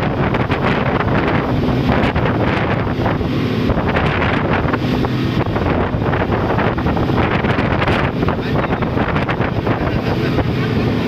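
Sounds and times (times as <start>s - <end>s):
low engine hum: 0.0s - 11.0s
wind buffeting microphone: 0.0s - 11.0s.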